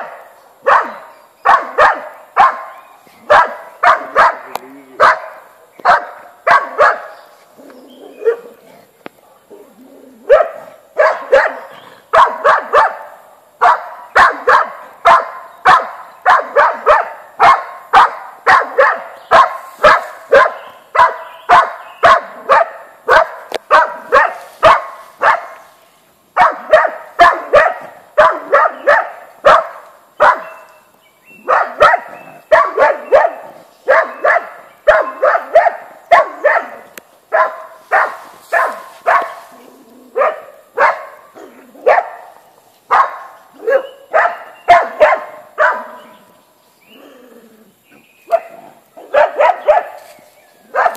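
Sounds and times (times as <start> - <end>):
hunting dog barking: 0.0 - 25.7, 26.4 - 30.7, 31.4 - 46.2, 48.3 - 50.9.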